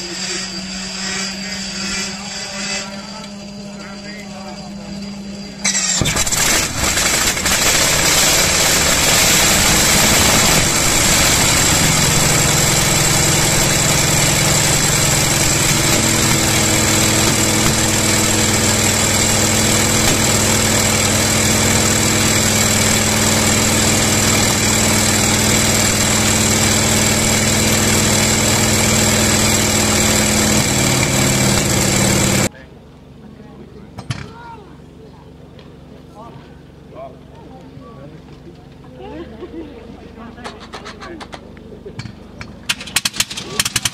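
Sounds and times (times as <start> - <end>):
radial aircraft engine running: 0.0 - 34.0, 34.7 - 43.9.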